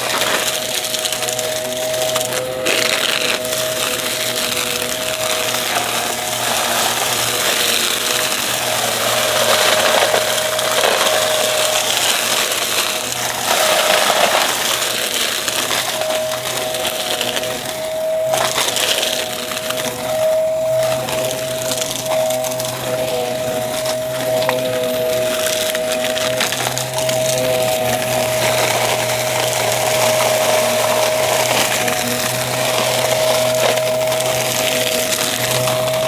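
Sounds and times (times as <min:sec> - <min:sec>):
dry debris crackling in nozzle: 0:00.0 - 0:36.0
vacuum cleaner motor whine: 0:00.0 - 0:36.0.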